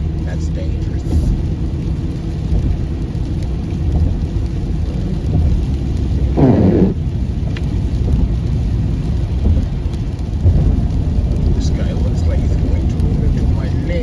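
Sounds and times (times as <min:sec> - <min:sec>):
car driving tyre and engine noise: 0:00.0 - 0:14.0.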